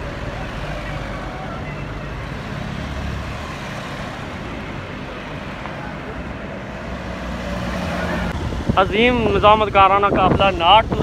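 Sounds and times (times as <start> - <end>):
cars driving past: 0.0 - 9.8.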